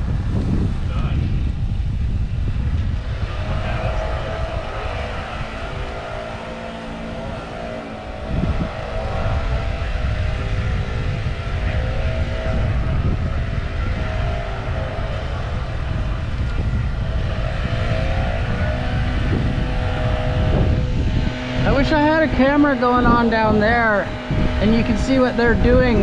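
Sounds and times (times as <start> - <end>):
engine-like hum: 0.0 - 26.0
wind buffeting microphone: 0.0 - 26.0.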